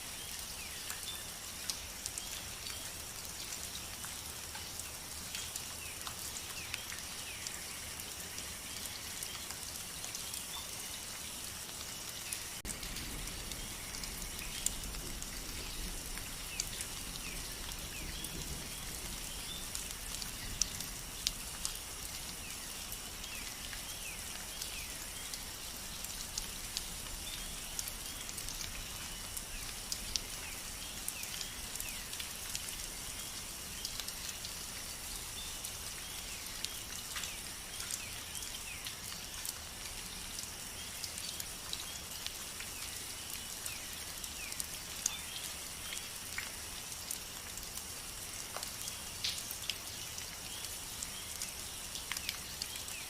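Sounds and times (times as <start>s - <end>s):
steady rain: 0.0s - 53.0s
raindrops clicking on a surface: 0.1s - 53.0s.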